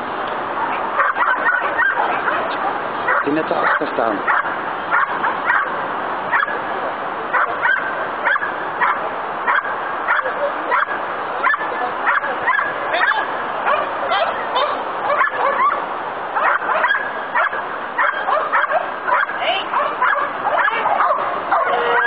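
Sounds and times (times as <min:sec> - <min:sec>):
dog barking: 0:00.6 - 0:06.6, 0:07.3 - 0:15.8, 0:16.4 - 0:22.0.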